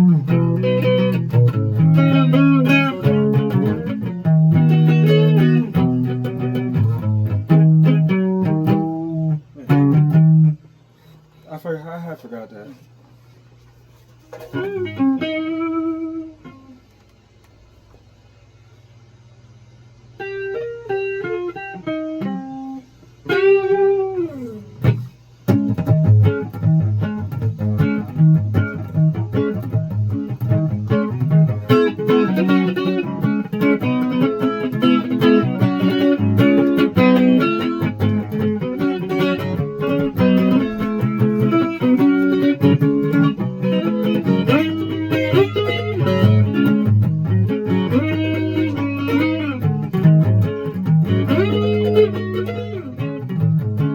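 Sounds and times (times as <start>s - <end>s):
guitar playing: 0.0s - 10.7s, 14.4s - 16.8s, 20.2s - 53.9s.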